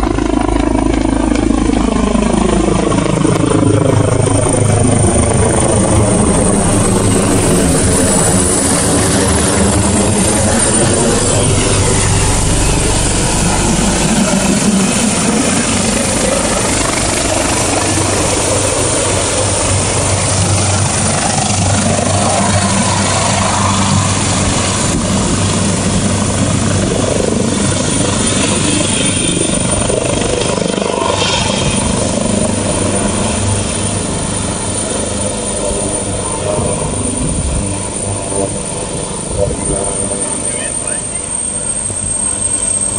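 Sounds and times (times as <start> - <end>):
helicopter rotors and turbines: 0.0 - 42.9.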